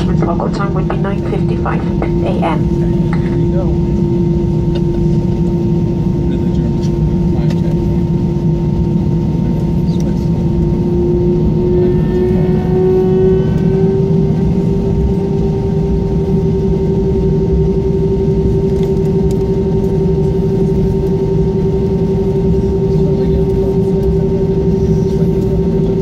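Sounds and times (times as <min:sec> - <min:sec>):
aircraft engines humming: 0:00.0 - 0:26.0
low rumble: 0:00.0 - 0:26.0.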